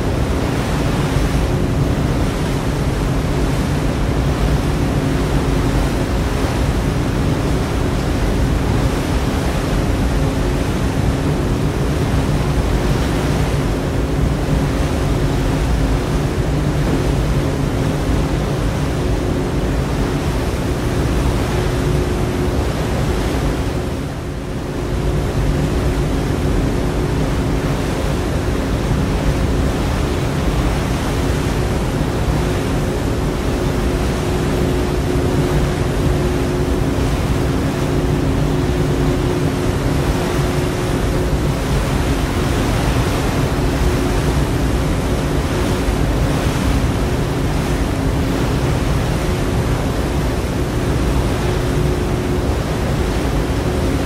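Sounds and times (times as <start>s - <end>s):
rushing water: 0.0s - 54.0s
wind: 0.0s - 54.0s.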